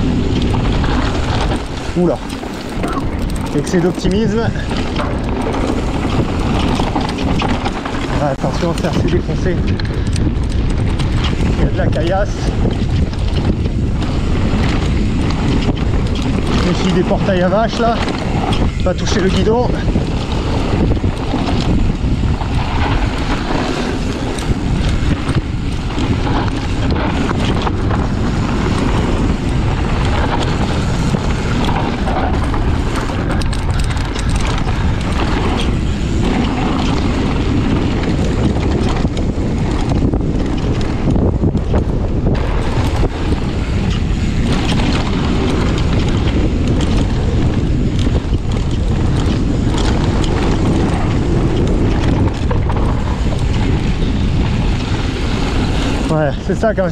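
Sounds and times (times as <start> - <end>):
bike rattling and knocking: 0.0 - 56.9
tyres rumbling on stony trail: 0.0 - 56.9
wind buffeting microphone: 0.0 - 56.9.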